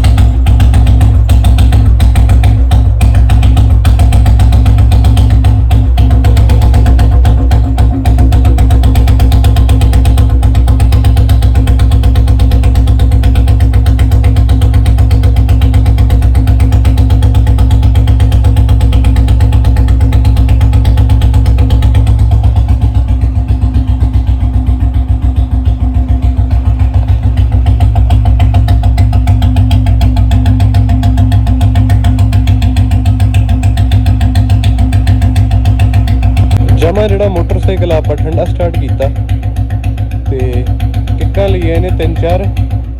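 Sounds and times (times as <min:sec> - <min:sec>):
motorcycle engine fast idle: 0:00.0 - 0:42.9.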